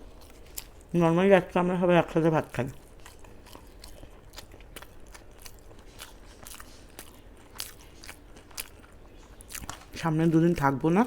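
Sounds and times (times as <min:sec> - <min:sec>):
chewing food: 0:00.0 - 0:10.9.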